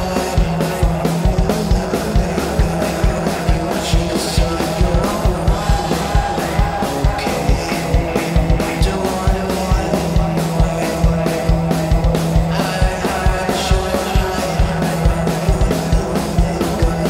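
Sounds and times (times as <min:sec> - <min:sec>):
fast drum beat: 0:00.0 - 0:17.0
rock music: 0:00.0 - 0:17.0.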